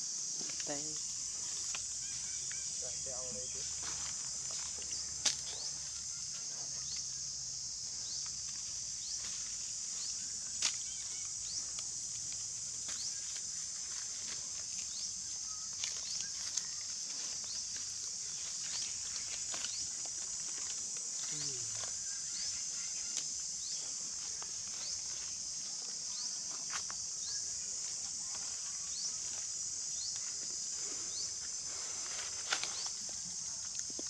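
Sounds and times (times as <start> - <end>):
insects droning: 0.0 - 34.0
dry leaves rustling: 0.3 - 6.6, 7.9 - 27.0, 27.6 - 33.7.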